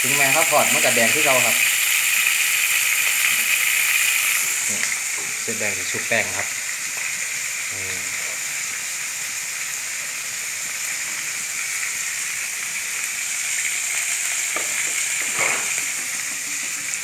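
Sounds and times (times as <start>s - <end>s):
meat deep-frying in oil: 0.0s - 17.0s.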